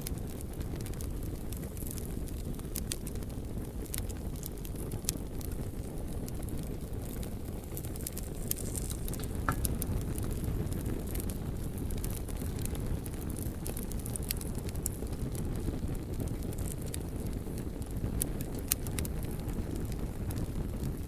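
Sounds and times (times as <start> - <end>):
fire crackling and popping: 0.0 - 21.0
wood fire roaring: 0.0 - 21.0.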